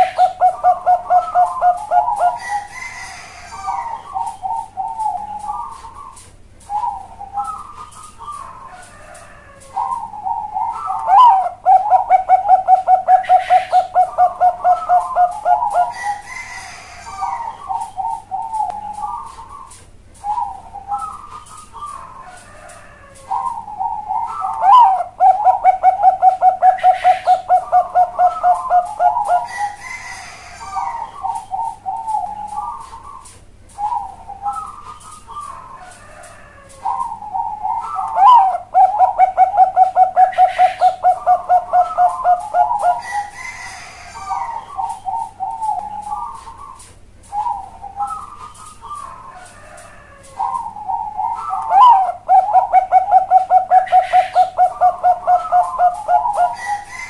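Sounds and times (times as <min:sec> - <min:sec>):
dove cooing song: 0:00.0 - 0:57.0.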